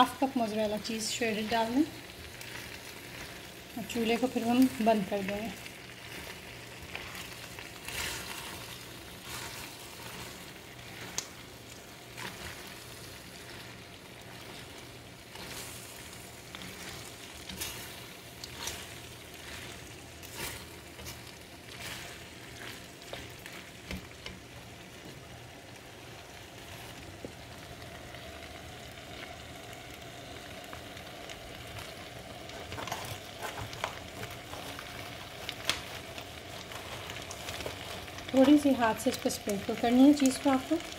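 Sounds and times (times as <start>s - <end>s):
soft sizzle from pan: 0.0s - 40.9s
spoon stirring and scraping skillet: 0.1s - 27.5s, 31.4s - 40.9s.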